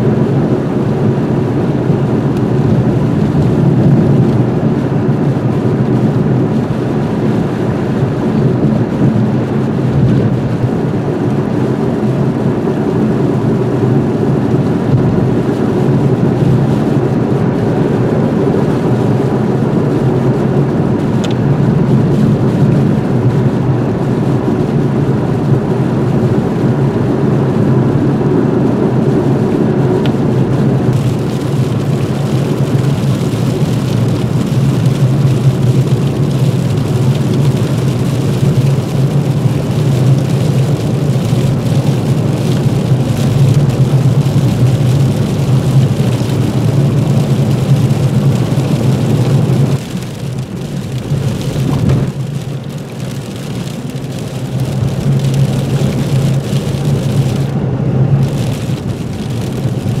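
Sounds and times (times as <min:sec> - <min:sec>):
car engine hum: 0:00.0 - 1:00.0.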